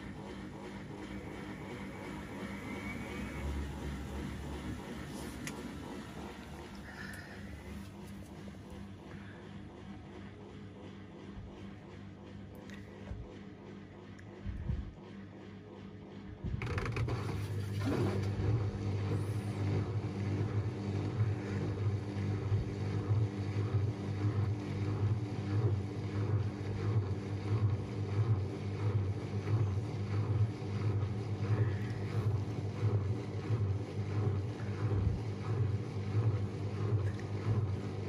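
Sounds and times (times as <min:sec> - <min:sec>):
washing machine humming: 0:00.0 - 0:38.0.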